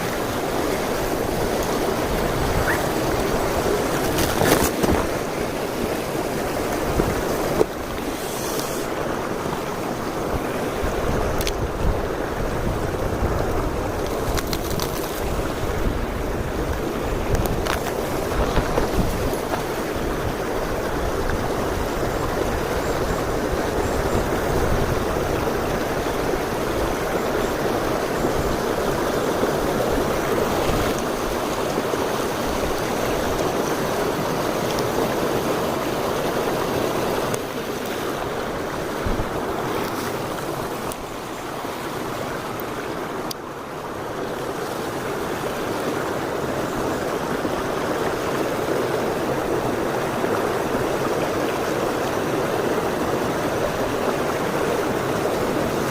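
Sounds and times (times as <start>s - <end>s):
stream water rushing over rocks: 0.0s - 55.9s.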